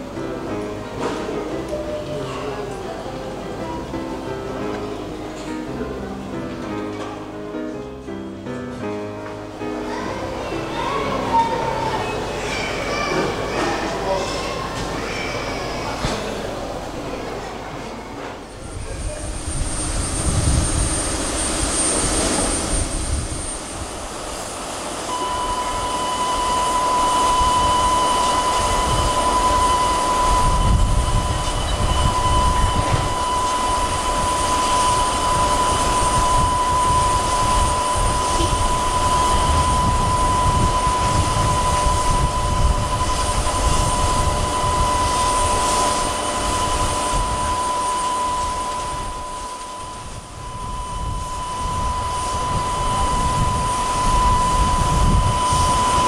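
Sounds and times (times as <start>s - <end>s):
jetliner high whine: 0.0s - 56.0s.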